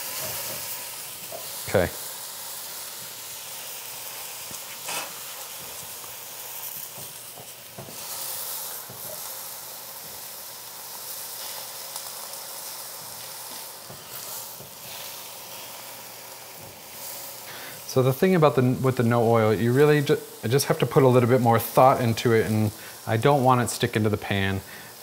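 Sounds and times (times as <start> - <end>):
mushrooms sizzling in a pan: 0.0 - 25.0.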